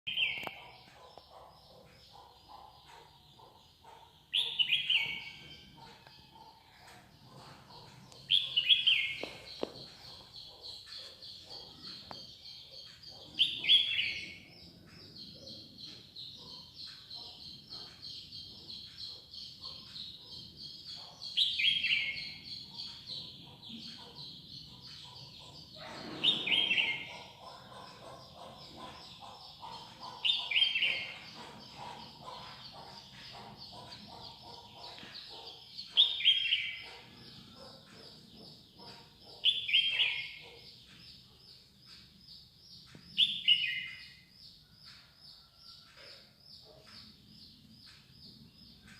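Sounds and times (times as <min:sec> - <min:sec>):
high rapid bird twittering: 0:00.1 - 0:44.8.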